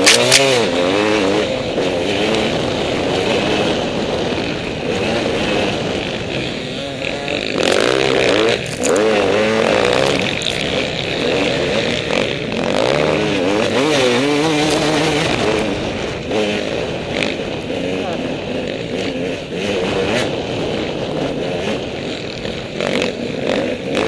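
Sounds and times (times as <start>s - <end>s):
dirt bike engine revving: 0.0s - 24.0s
wind noise: 0.0s - 24.0s.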